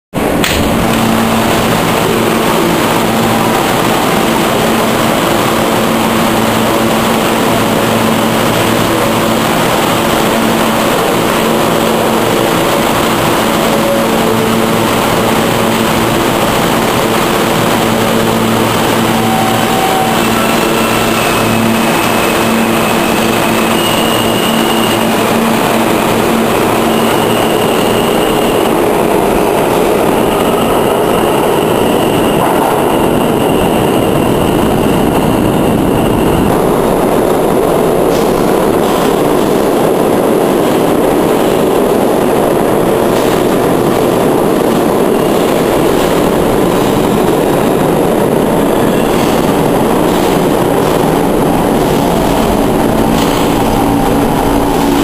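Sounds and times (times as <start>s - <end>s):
subway train whine: 0.1s - 55.0s
train rumble: 0.1s - 55.0s.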